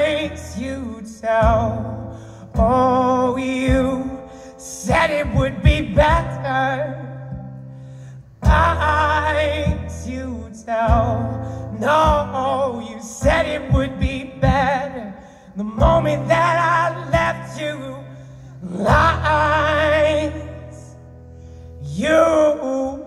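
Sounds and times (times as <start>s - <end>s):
man singing with vibrato: 0.0s - 7.6s, 8.2s - 23.0s
strummed acoustic guitar: 0.0s - 23.0s.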